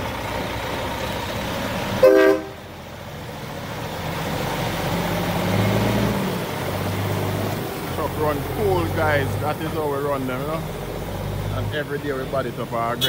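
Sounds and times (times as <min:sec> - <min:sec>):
truck diesel engine pulling away: 0:00.0 - 0:13.0.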